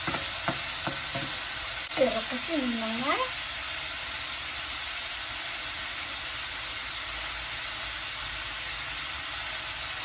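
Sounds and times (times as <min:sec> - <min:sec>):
chicken sizzling in frying pan: 0:00.0 - 0:10.0.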